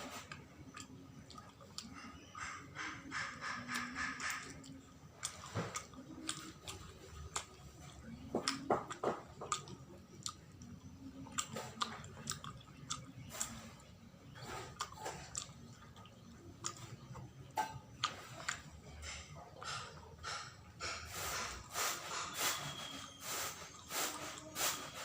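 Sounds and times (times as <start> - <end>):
person chewing with mouth clicks: 0.1 - 22.0.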